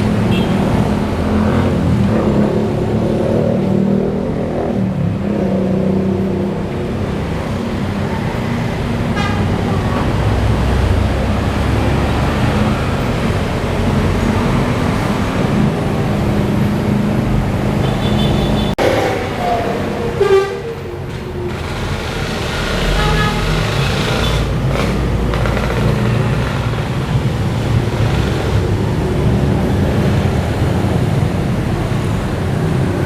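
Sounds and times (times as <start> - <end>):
vehicle engines passing: 0.0 - 33.0.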